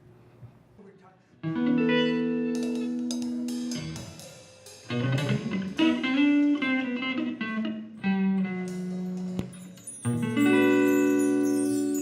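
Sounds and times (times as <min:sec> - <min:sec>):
guitar playing instrumental: 0:01.4 - 0:12.0.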